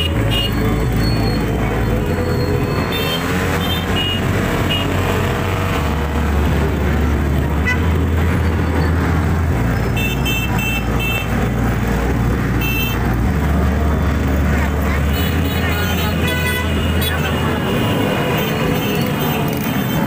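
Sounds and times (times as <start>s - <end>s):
horns beeping: 0.0s - 11.6s, 12.6s - 20.0s.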